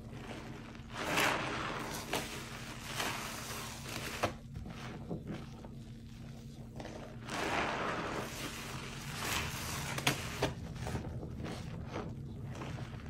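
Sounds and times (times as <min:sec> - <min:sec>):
soapy sponge squelching: 0:00.0 - 0:13.0.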